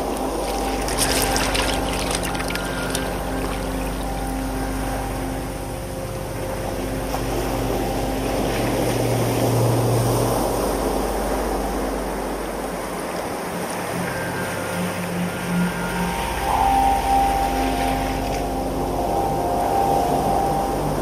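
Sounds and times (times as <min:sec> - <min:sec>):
low musical drone tones: 0:00.0 - 0:21.0
seawater washing through rocks: 0:00.0 - 0:21.0
surf surge: 0:00.0 - 0:21.0.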